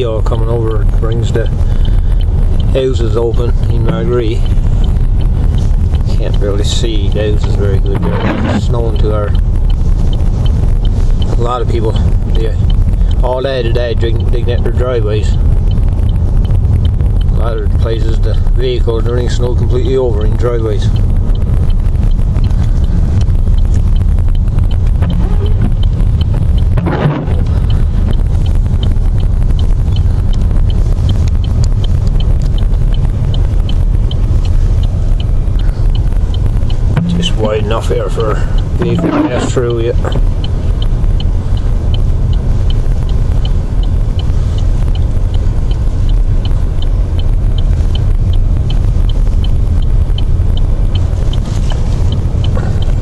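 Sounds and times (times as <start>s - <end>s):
engine and tyres rumbling: 0.0s - 53.0s
light regular ticking: 0.0s - 53.0s.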